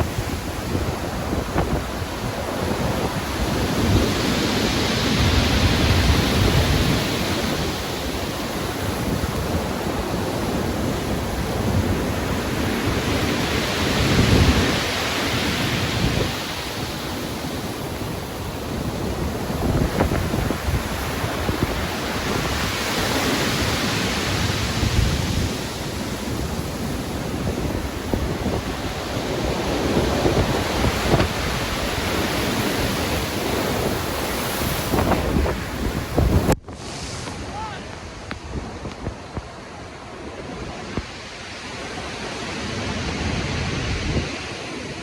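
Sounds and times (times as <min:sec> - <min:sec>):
ocean waves rushing: 0:00.0 - 0:45.0
wind: 0:00.0 - 0:45.0.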